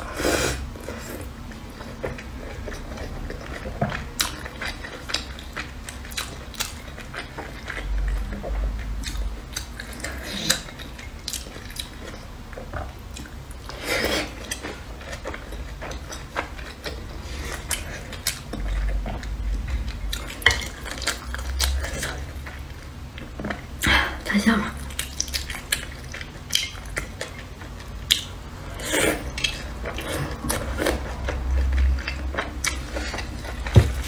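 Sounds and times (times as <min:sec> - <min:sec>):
chewing dumpling: 0:00.8 - 0:23.8, 0:24.8 - 0:34.0.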